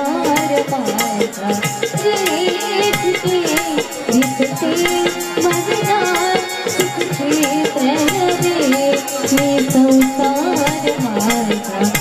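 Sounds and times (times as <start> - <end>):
drums in steady rhythm: 0.0 - 12.0
girl singing folk song: 0.0 - 12.0
harmonium: 0.0 - 12.0.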